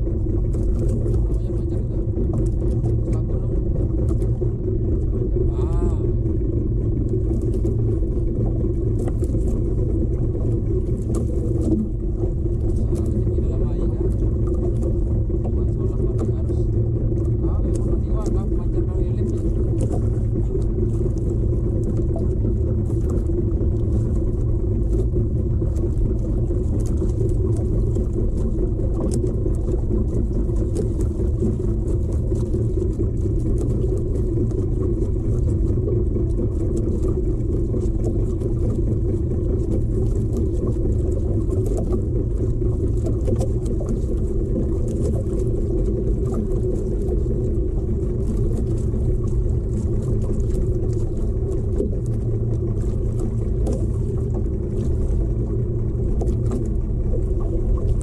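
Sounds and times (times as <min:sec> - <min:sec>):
boat engine rumbling: 0:00.0 - 0:58.0.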